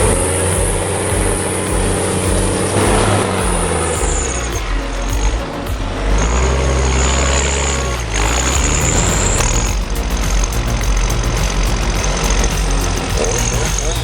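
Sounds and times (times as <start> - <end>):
heavy machinery engine running: 0.0 - 14.0.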